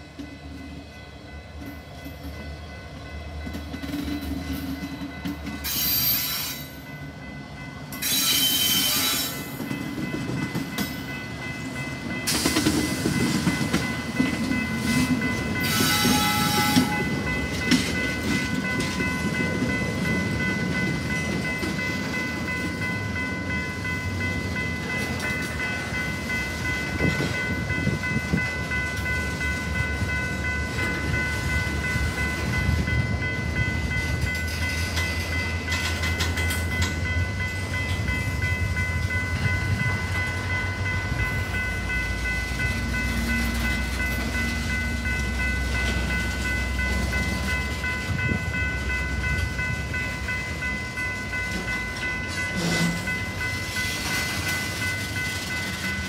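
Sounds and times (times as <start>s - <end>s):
crossing signal ringing: 0.0s - 56.0s
diesel locomotives rumbling: 0.0s - 56.0s
rail clatter: 8.0s - 56.0s.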